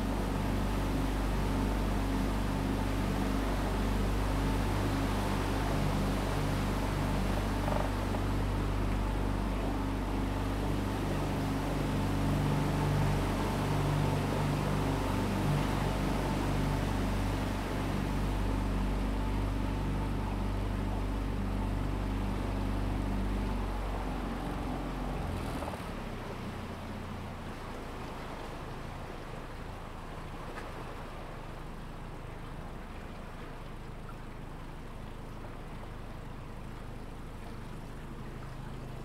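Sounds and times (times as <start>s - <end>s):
motorboat engine humming: 0.0s - 39.0s.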